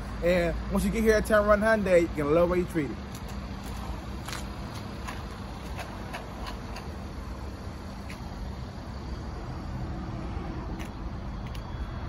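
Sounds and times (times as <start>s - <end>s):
faint steady hum: 0.0s - 12.0s
low vehicle rumble: 0.0s - 12.0s.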